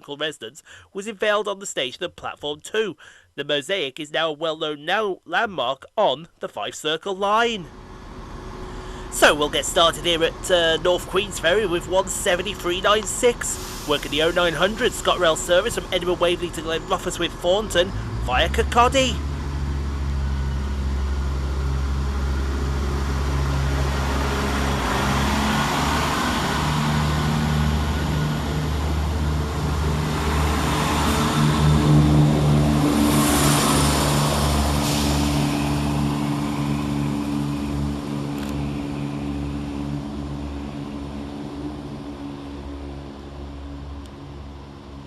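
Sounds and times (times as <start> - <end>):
diesel train engines humming: 7.3 - 45.0.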